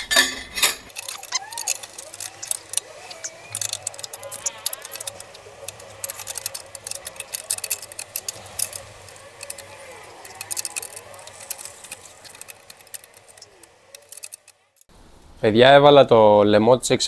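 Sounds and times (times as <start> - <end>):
ratchet wrench clicking: 0.0 - 14.9
small metal clinks: 0.0 - 14.9.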